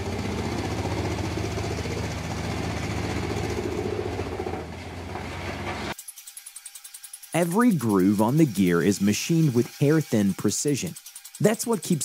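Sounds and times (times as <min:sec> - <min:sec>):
wood chipper engine running: 0:00.0 - 0:12.0.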